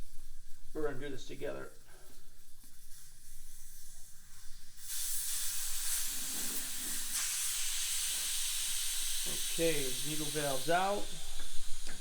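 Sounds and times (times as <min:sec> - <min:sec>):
air hissing out of a tire valve: 0:01.6 - 0:12.0.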